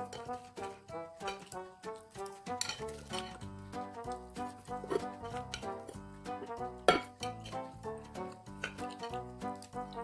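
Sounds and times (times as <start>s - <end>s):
brass-like background music: 0.0s - 10.0s.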